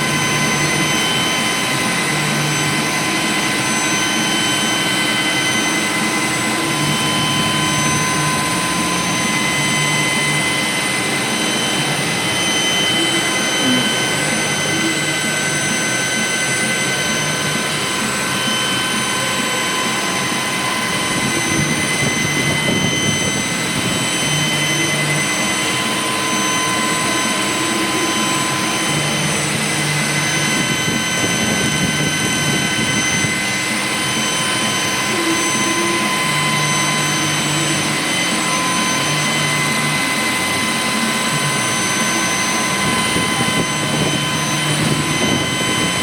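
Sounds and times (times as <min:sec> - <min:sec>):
low hum: 0:00.0 - 0:46.0
machine hissing with high tones: 0:00.0 - 0:46.0.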